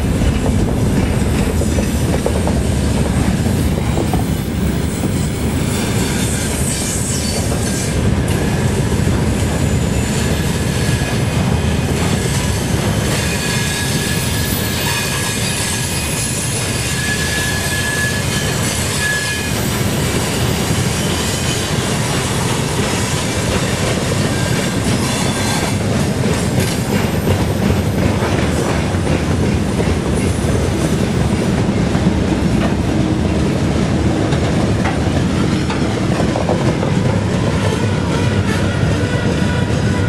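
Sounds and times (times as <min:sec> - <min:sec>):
freight wagons rolling on rail: 0:00.0 - 0:40.0.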